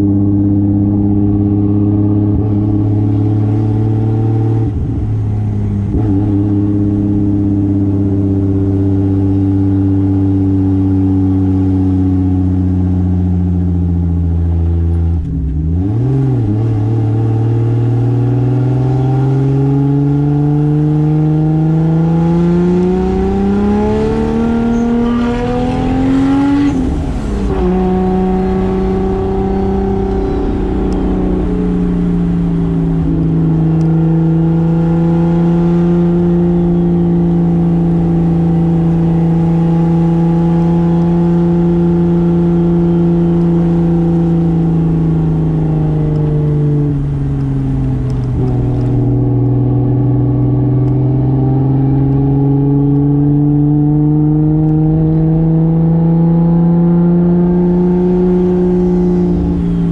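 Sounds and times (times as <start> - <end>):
car engine cruising: 0.0 - 59.9.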